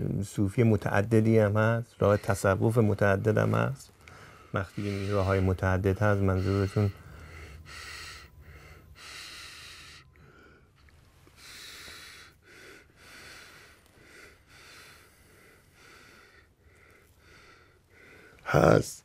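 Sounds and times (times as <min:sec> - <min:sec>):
faint low hum: 0:00.0 - 0:19.0
man breathing: 0:02.0 - 0:18.5.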